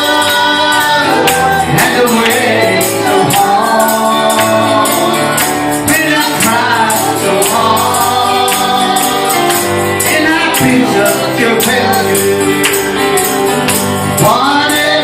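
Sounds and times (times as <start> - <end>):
gospel band music: 0.0 - 15.0
people singing: 0.0 - 15.0
tambourine shaken and struck: 0.0 - 15.0.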